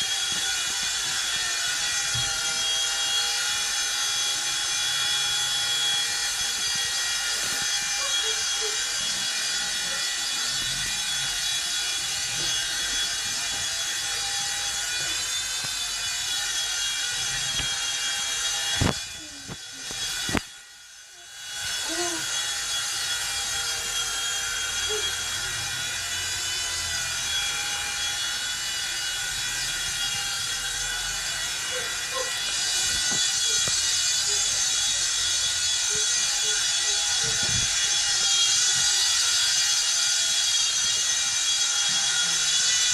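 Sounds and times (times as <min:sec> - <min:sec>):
toy helicopter motor whining: 0:00.0 - 0:42.9.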